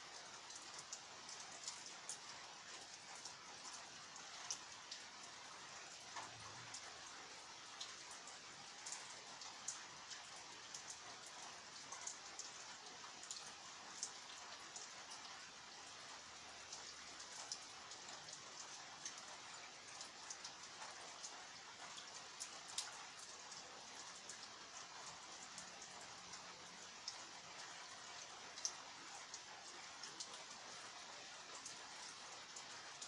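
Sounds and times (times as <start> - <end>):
light rain hiss: 0.0 - 33.0.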